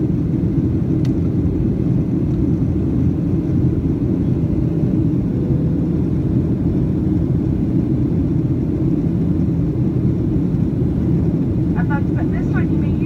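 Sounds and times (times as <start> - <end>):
jet engines and airflow in cabin: 0.0 - 13.0.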